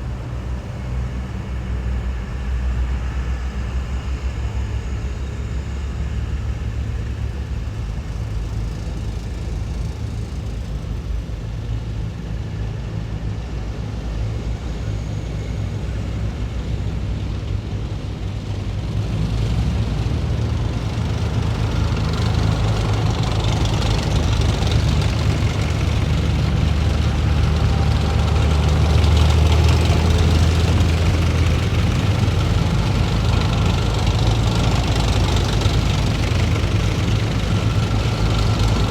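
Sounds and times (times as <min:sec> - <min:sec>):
heavy vehicle engines rumbling: 0:00.0 - 0:38.9.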